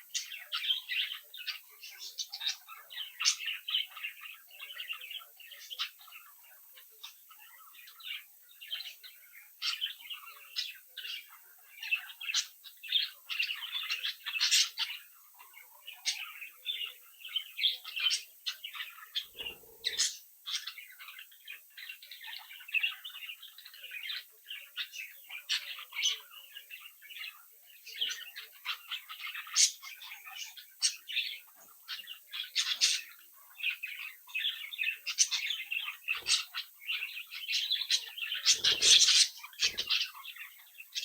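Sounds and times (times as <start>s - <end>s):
budgerigars chattering: 0.0s - 41.0s.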